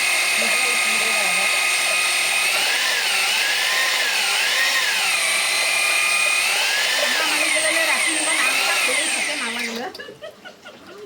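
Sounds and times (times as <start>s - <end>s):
electric drill motor whine: 0.0s - 9.9s.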